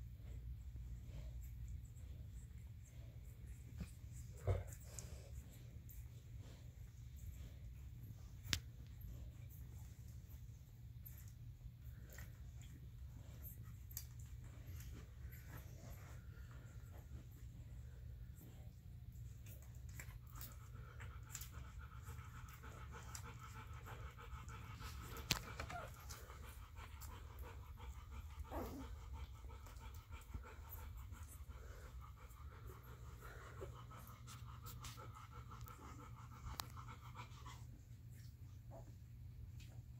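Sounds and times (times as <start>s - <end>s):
puppies suckling and breathing: 0.0s - 39.9s.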